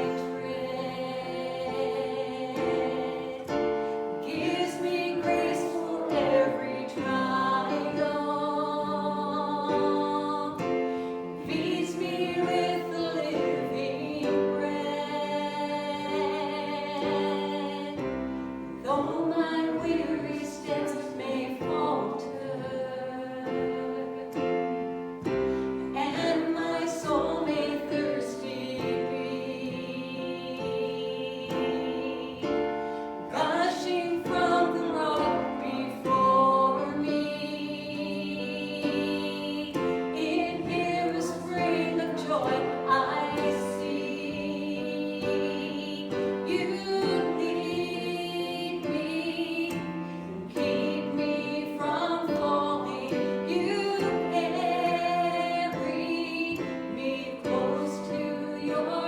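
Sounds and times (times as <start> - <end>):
instrumental accompaniment: 0.0 - 59.0
voices singing worship song: 0.0 - 59.0.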